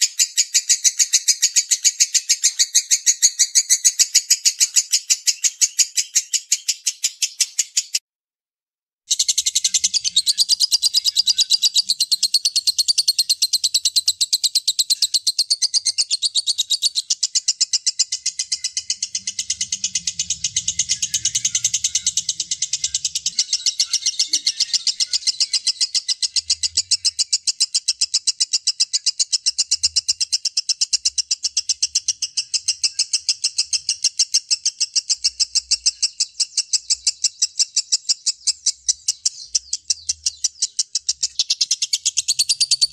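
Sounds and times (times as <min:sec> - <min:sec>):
lovebird chattering: 0:00.0 - 0:08.0, 0:09.1 - 0:42.9.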